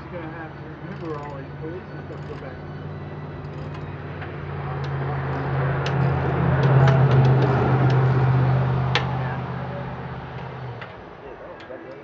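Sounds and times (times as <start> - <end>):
motor engine humming: 0.0 - 12.0.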